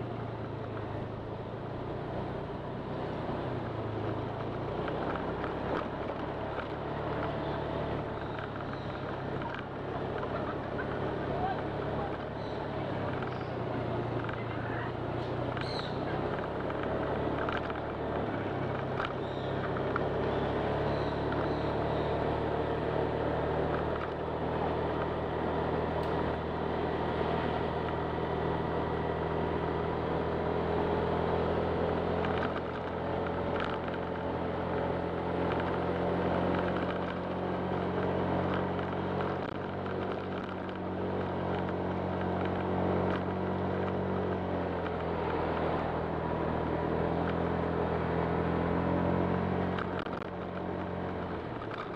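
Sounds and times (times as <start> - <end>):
scooter engine droning: 0.0 - 51.9
wind and road noise: 0.0 - 51.9.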